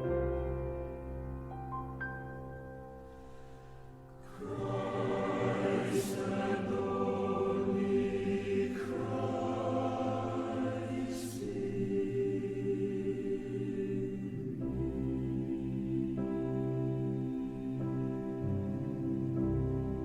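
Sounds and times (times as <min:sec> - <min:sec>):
choir singing sustained chords: 0:02.2 - 0:20.0.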